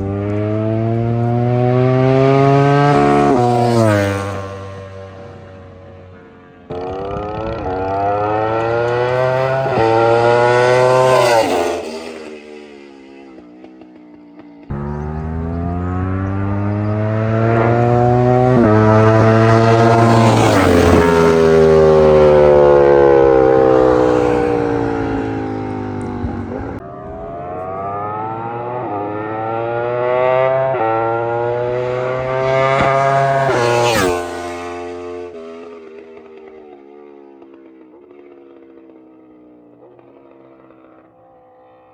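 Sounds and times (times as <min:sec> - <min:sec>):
motorcycle accelerating past: 0:00.0 - 0:41.9.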